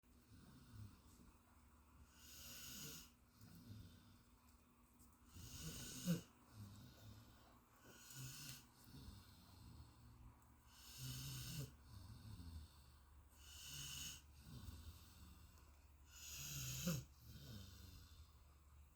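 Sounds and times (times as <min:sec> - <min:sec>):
dog snoring softly: 0:02.0 - 0:04.2, 0:05.2 - 0:18.4.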